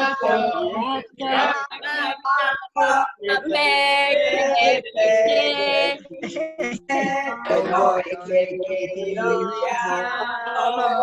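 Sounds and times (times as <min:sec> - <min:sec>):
group singing: 0:00.0 - 0:11.0.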